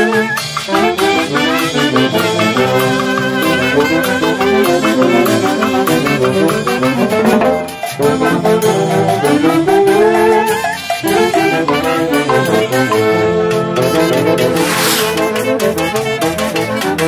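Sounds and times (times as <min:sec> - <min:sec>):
brass band playing: 0:00.0 - 0:17.0.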